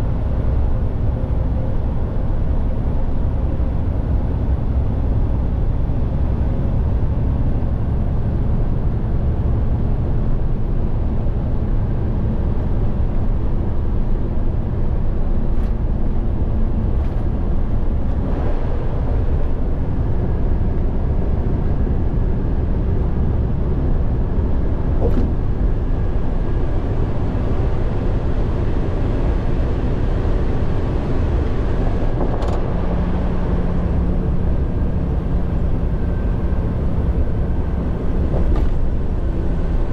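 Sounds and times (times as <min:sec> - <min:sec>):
road and engine drone: 0:00.0 - 0:39.9.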